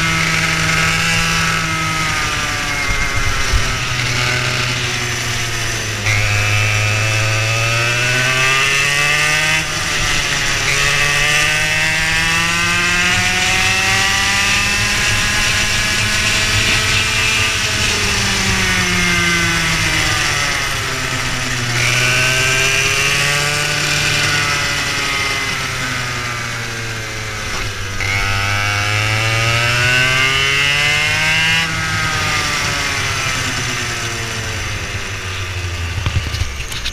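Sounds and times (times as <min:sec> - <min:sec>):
go-kart engine: 0:00.0 - 0:36.9.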